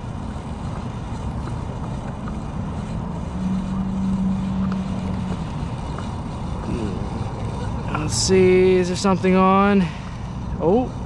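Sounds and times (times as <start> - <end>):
engine running: 0.0 - 11.0
rushing background noise: 0.0 - 11.0
steady hum: 0.0 - 11.0.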